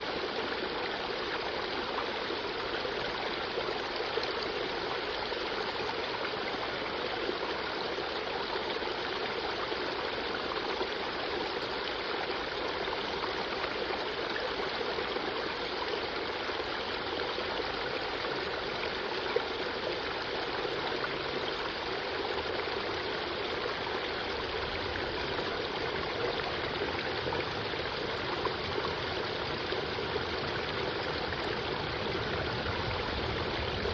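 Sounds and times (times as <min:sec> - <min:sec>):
creek water flowing: 0:00.0 - 0:33.9.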